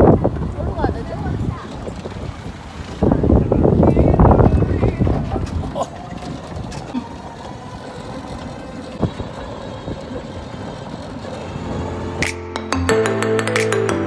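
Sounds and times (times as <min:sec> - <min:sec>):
wind buffeting microphone: 0:00.0 - 0:12.3
road rumble: 0:00.0 - 0:14.0.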